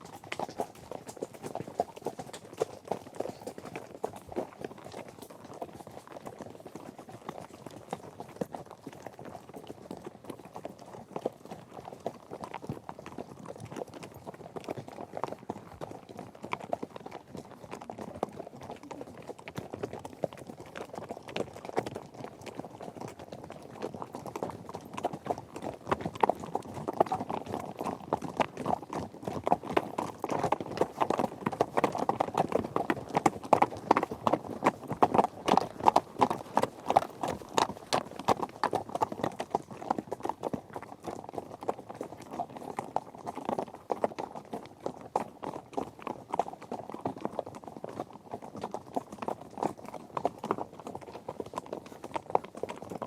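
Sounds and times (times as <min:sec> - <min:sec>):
horse hooves galloping: 0:00.0 - 0:53.0.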